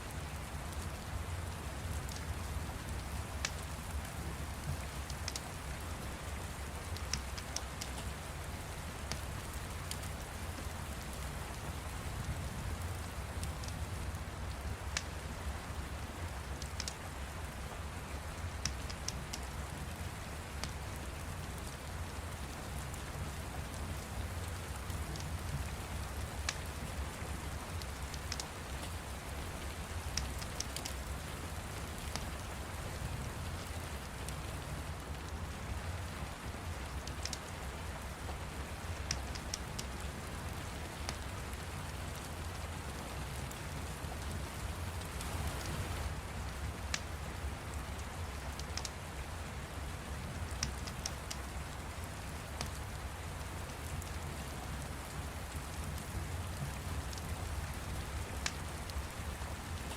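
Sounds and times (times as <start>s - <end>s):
steady rain: 0.0s - 59.9s
wood fire crackling: 0.2s - 59.9s.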